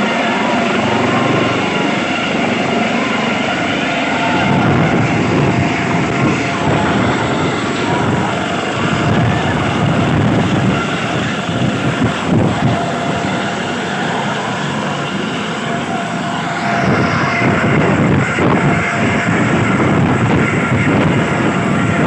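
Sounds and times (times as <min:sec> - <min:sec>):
helicopter rotor and turbine din: 0:00.0 - 0:22.0
wind blowing across microphone: 0:00.0 - 0:22.0.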